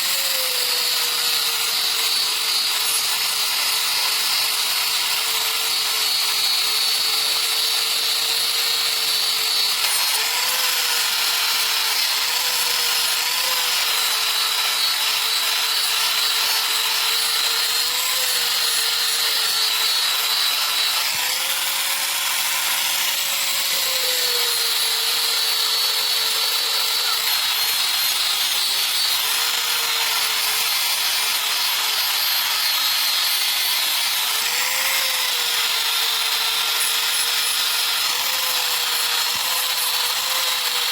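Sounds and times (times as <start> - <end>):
electric grinder grinding steel: 0.0 - 40.9.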